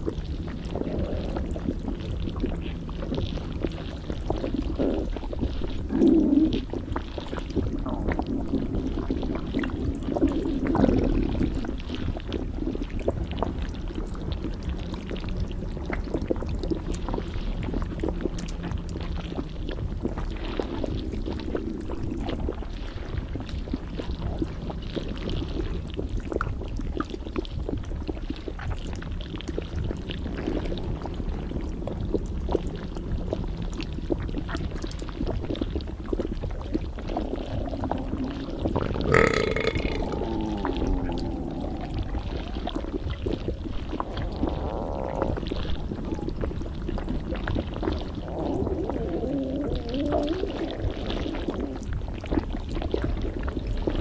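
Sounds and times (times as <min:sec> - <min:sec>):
stomach rumbling: 0:00.0 - 0:54.0
watery stomach gurgles: 0:00.0 - 0:54.0.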